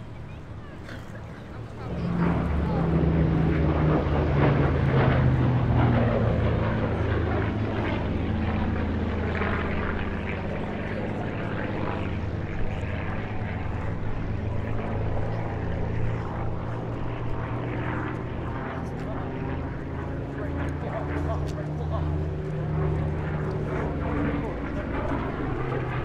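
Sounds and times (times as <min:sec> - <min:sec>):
propeller aircraft engine: 0:00.0 - 0:26.0.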